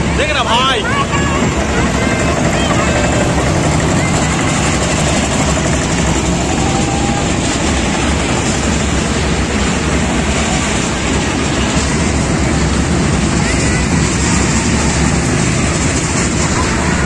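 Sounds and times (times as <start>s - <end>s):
roller coaster rumble: 0.0s - 17.0s.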